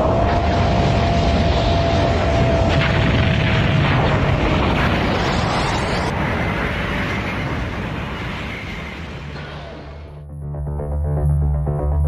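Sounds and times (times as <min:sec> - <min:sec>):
deep noisy rumble: 0:00.0 - 0:12.0.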